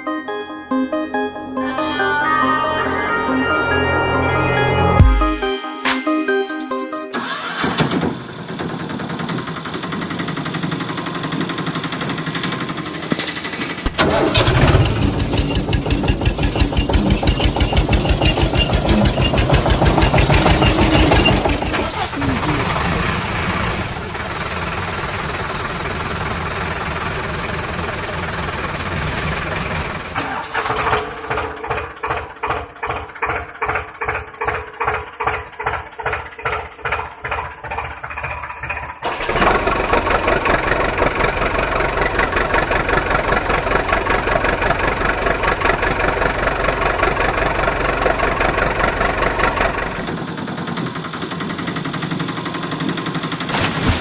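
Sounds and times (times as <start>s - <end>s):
vehicle engine running: 7.4s - 54.0s.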